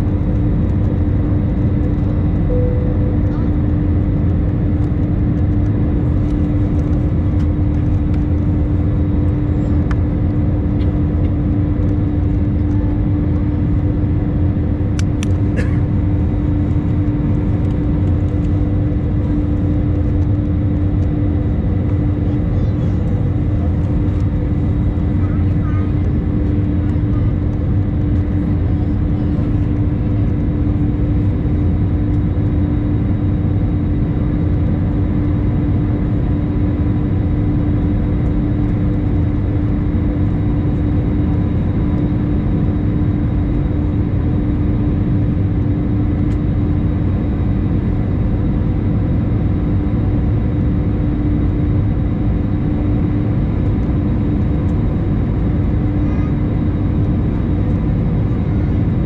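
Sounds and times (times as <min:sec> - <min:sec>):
jet cabin engine roar: 0:00.0 - 0:59.0.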